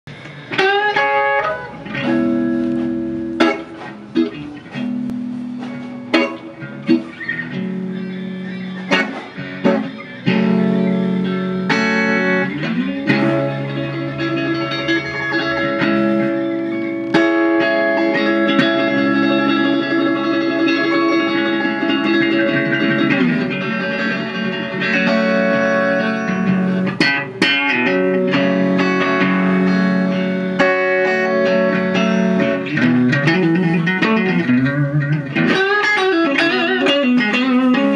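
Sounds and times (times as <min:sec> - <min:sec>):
electric guitar playing: 0:00.1 - 0:37.9.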